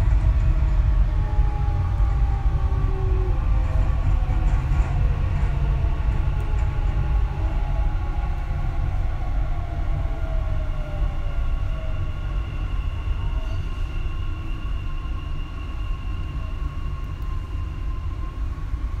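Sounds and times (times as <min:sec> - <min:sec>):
train rumble with electric whine: 0:00.0 - 0:19.0.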